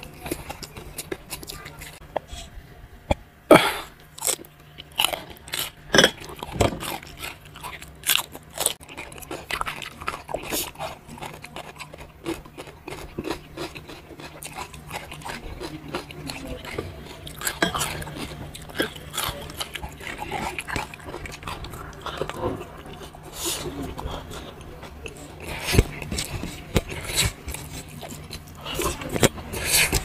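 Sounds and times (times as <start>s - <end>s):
cucumber crunching while chewed: 0.0s - 2.2s, 4.0s - 30.0s.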